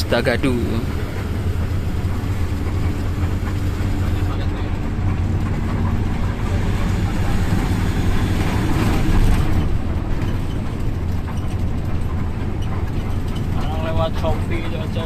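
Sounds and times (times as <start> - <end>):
diesel bus engine idling: 0.0 - 15.0.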